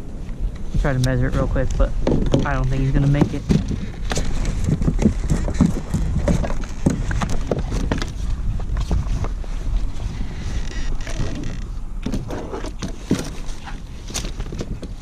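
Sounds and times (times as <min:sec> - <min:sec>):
wind rumbling on microphone: 0:00.0 - 0:15.0
knocks and clatter on a kayak: 0:01.7 - 0:15.0.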